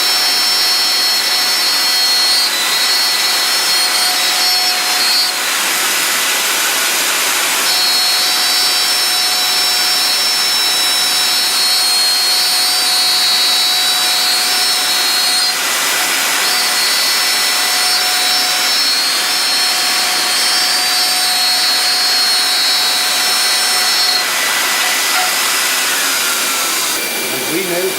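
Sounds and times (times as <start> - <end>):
router spindle cutting wood: 0.0 - 27.9.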